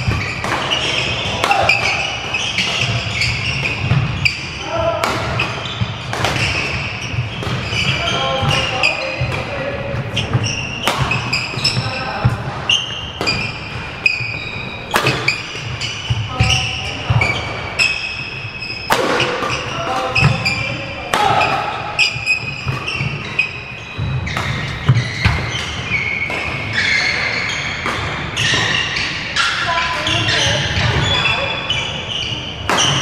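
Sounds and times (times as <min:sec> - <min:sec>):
racket hitting shuttlecock: 0:00.0 - 0:09.5, 0:10.1 - 0:29.6, 0:32.6 - 0:33.0
shoes squeaking on wooden floor: 0:00.0 - 0:33.0.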